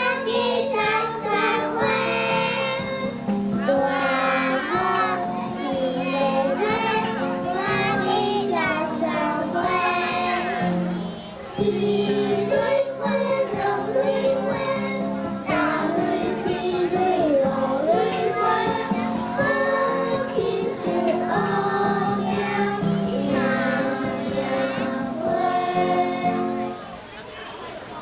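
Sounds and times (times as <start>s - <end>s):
children singing together: 0.0s - 27.0s
recorded backing music: 0.0s - 27.1s.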